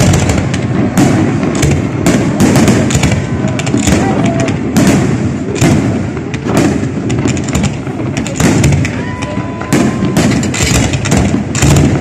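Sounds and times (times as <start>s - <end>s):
fireworks bursting with loud bangs: 0.0s - 12.0s
fireworks crackling: 0.0s - 12.0s.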